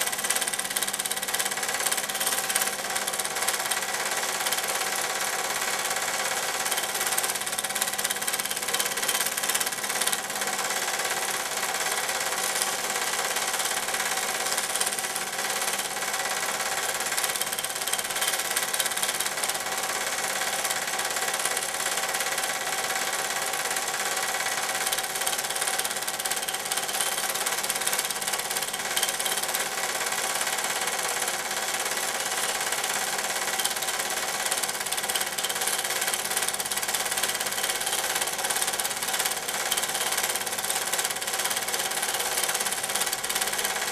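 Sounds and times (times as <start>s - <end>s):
film projector whirring and clattering: 0.0s - 43.9s.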